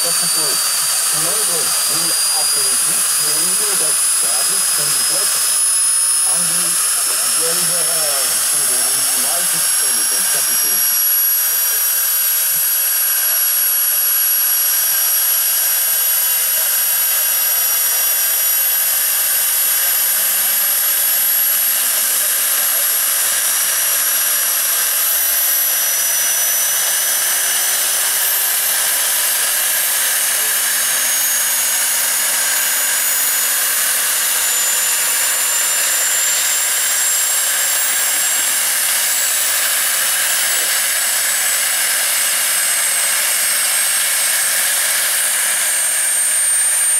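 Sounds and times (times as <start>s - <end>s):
model turbine engine whining: 0.0s - 46.9s.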